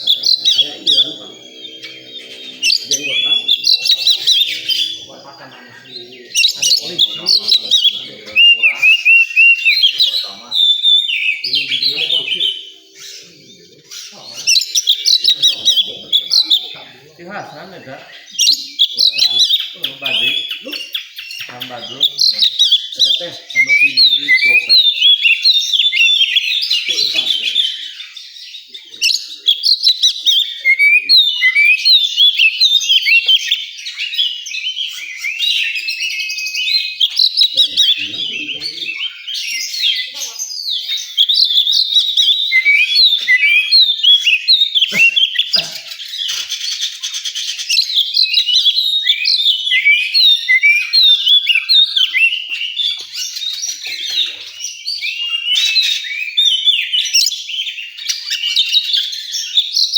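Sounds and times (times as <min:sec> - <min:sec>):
bird whistles and chirps: 0:00.0 - 0:16.9, 0:17.9 - 0:59.9.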